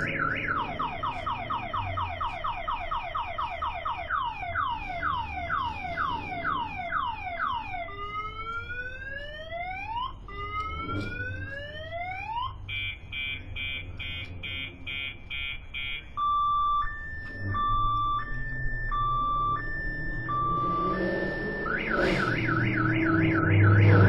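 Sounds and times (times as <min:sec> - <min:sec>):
car alarm siren: 0:00.0 - 0:24.0.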